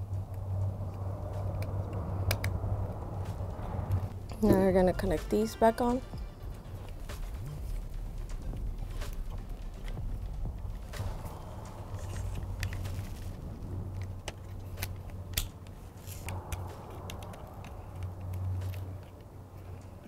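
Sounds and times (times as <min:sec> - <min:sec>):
connectors clicking and rustling: 0:00.0 - 0:04.6, 0:06.6 - 0:20.0
steady low hum: 0:00.0 - 0:20.0.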